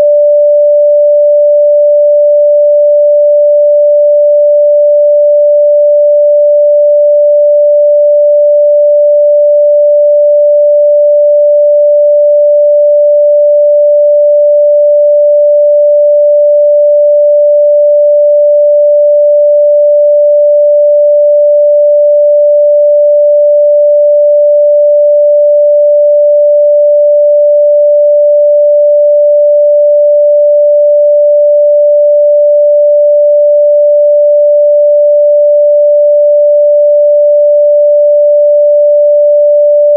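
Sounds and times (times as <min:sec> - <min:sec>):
steady sine test tone: 0:00.0 - 0:39.9.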